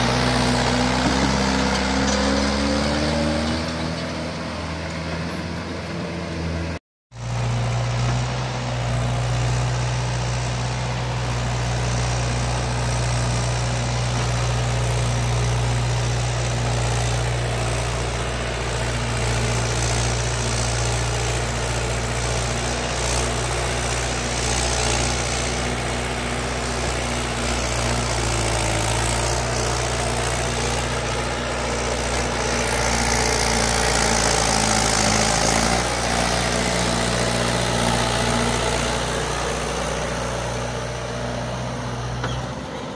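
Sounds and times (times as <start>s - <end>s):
tractor diesel engine under load: 0.0s - 42.9s.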